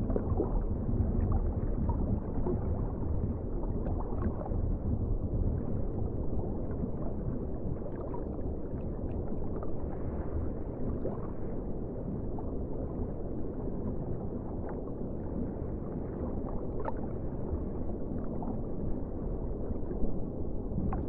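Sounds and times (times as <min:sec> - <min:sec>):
underwater rumble of water: 0:00.0 - 0:21.0.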